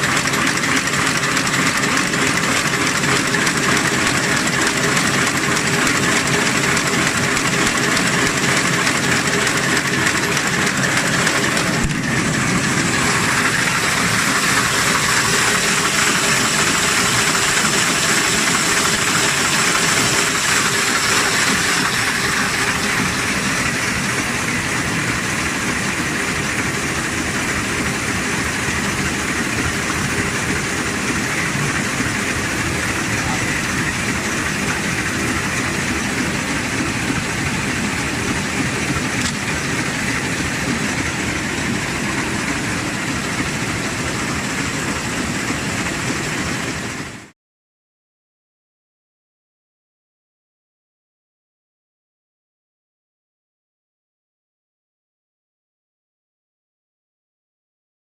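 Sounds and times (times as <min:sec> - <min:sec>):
machine mechanical clatter: 0:00.0 - 0:47.2.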